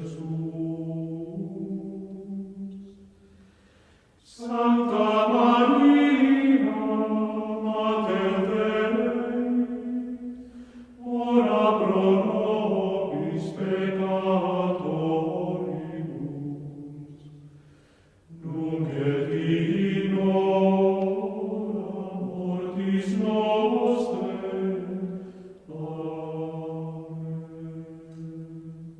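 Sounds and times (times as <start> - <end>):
voices singing a devotional chant: 0.0 - 3.1, 4.2 - 17.4, 18.3 - 28.9.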